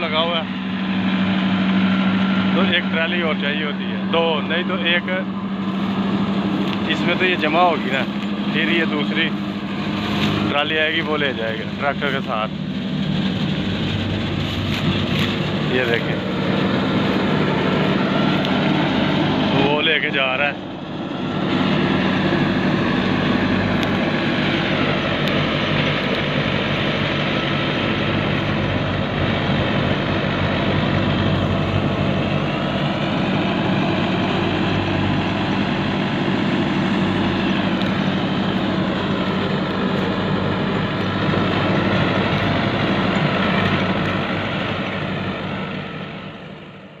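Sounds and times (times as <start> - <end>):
straw chopper rotor and blower: 0.0 - 47.0
tractor engine under load: 0.0 - 47.0.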